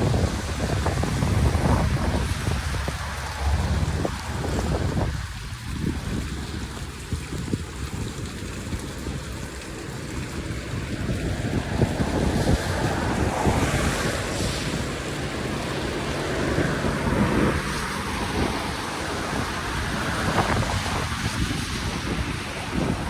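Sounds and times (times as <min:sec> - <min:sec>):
floodwater rushing down drain: 0:00.0 - 0:23.0
wind buffeting microphone: 0:00.0 - 0:23.0.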